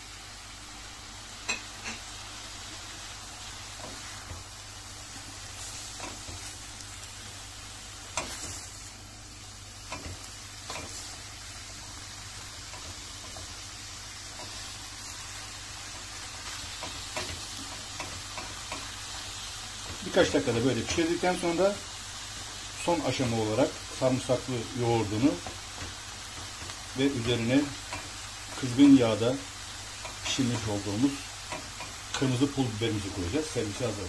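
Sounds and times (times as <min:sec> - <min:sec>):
greens frying in a pot: 0:00.0 - 0:34.0.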